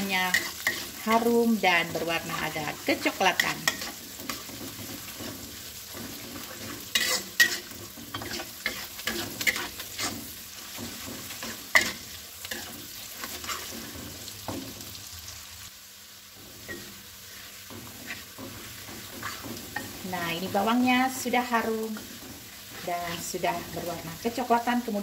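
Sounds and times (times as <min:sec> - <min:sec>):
metal spatula scraping wok: 0:00.0 - 0:14.9, 0:16.4 - 0:25.0
food sizzling in hot oil: 0:00.0 - 0:25.0.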